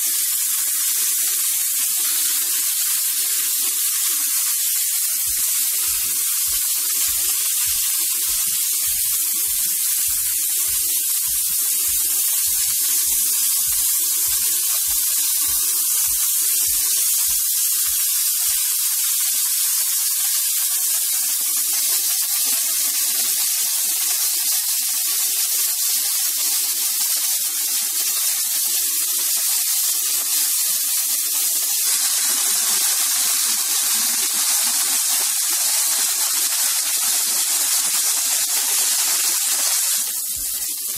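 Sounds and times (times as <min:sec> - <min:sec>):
steak sizzling in a pan: 0:00.0 - 0:40.9.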